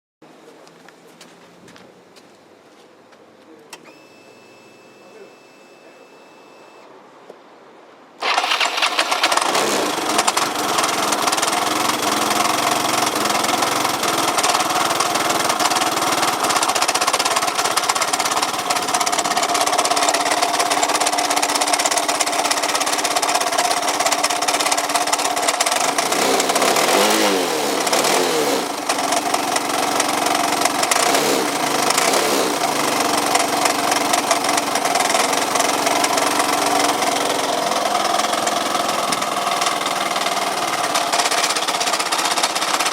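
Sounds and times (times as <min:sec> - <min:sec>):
abnormal engine noise: 0:08.2 - 0:42.9
scooter engine running: 0:08.2 - 0:42.9.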